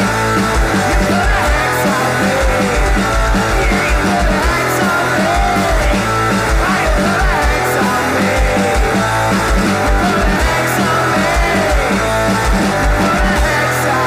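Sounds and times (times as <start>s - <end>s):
electric guitar: 0.0s - 14.0s
steady drum beat: 0.0s - 14.0s.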